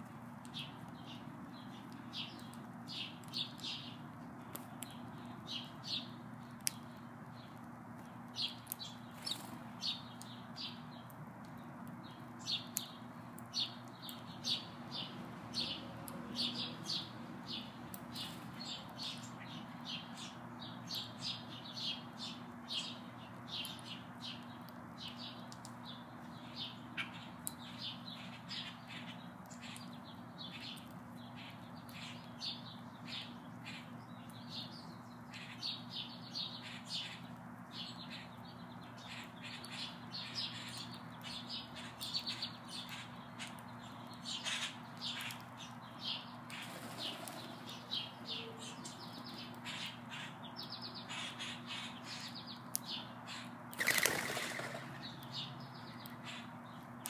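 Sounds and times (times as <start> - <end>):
sparrows chirping: 0.3 - 57.0.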